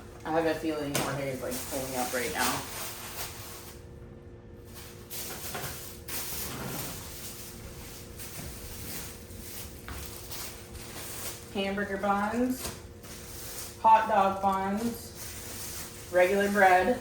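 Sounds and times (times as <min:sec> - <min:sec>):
grocery bags rustling: 0:00.0 - 0:03.9, 0:04.6 - 0:17.0.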